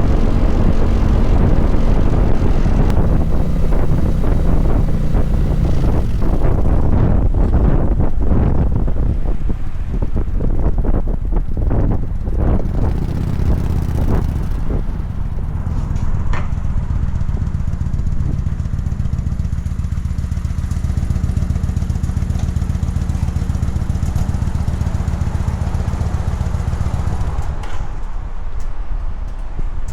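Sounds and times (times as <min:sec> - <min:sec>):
motorcycle engine rumbling: 0:00.0 - 0:29.9.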